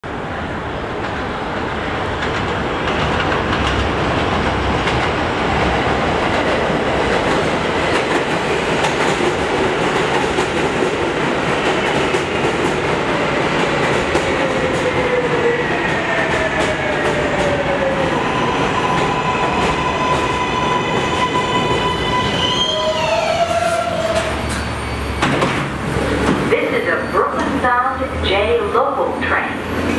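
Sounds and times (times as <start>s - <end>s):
wheels rumbling on rail: 0.1s - 29.9s.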